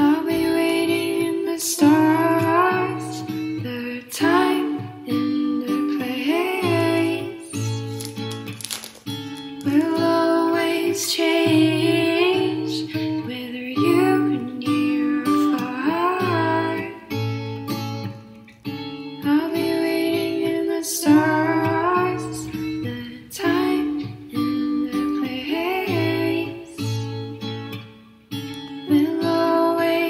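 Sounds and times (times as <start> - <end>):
person singing: 0.0 - 8.2, 9.6 - 17.1, 19.2 - 27.2, 28.7 - 30.0
plucked guitar music: 0.0 - 30.0.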